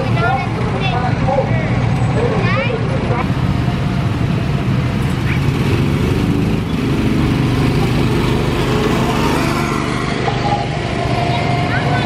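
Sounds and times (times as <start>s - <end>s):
go-kart engines humming: 0.0s - 12.0s.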